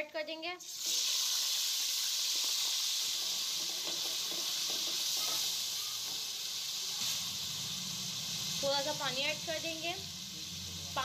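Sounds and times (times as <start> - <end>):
tomatoes sizzling in hot oil: 0.3 - 11.0.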